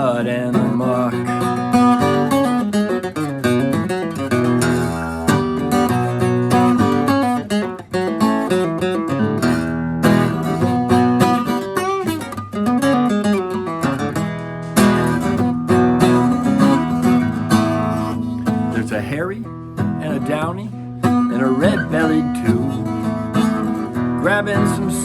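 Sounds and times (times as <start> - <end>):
acoustic guitar strummed and picked: 0.0 - 25.0.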